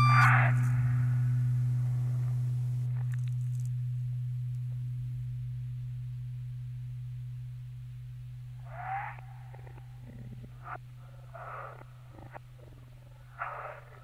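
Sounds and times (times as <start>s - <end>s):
low electronic drone: 0.0s - 14.0s.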